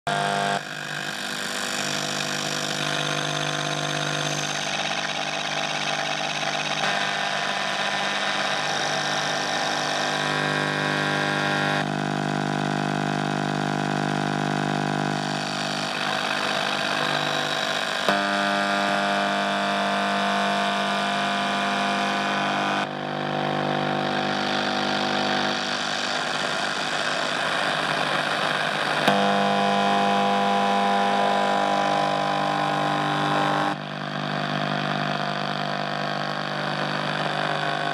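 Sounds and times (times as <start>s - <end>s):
radio interference buzzing: 0.1s - 37.9s.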